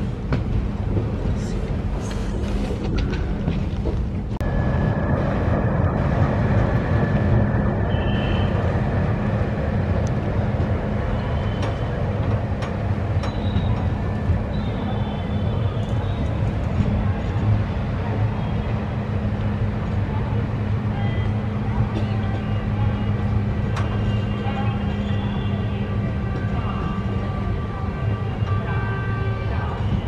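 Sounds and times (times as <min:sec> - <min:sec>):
diesel locomotive drone: 0:00.0 - 0:30.0
wheels rumbling on track: 0:00.0 - 0:30.0.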